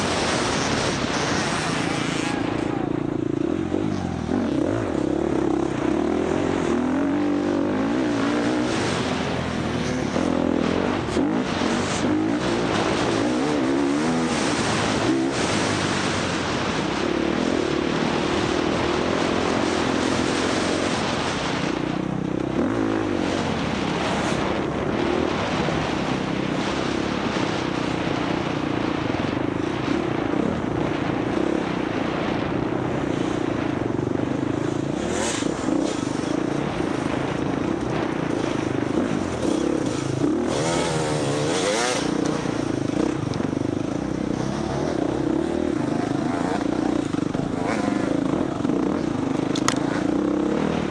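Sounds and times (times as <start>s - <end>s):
dirt bike engine revving: 0.0s - 50.9s
wind rush: 0.0s - 50.9s.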